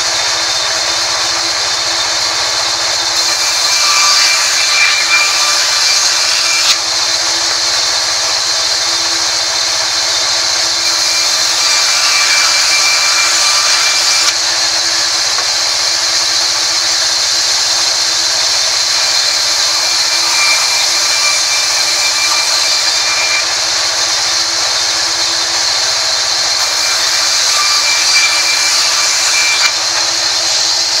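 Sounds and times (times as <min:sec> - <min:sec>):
band saw cutting wood: 0:00.0 - 0:31.0.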